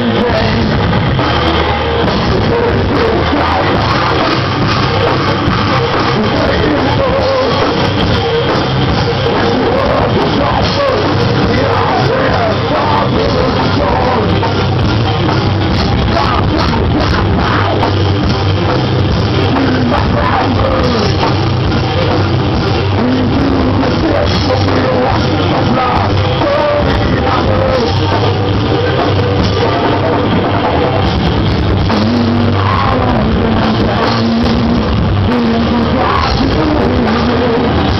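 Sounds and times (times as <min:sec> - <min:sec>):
person singing: 0:00.0 - 0:15.2, 0:15.8 - 0:18.5, 0:19.2 - 0:37.9
live rock band playing: 0:00.0 - 0:37.9.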